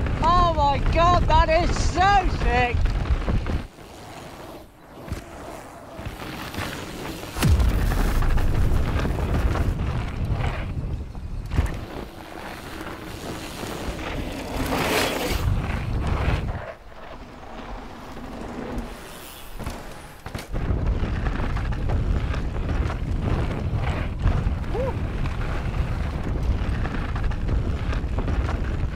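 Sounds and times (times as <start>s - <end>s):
bike tyres rolling on dirt: 0.0s - 28.9s
wind rushing over microphone: 0.0s - 28.9s.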